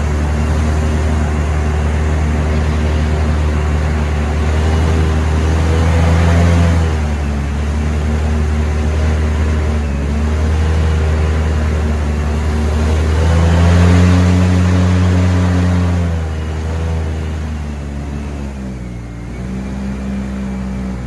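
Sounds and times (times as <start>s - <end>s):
airboat engine and propeller: 0.0s - 21.0s.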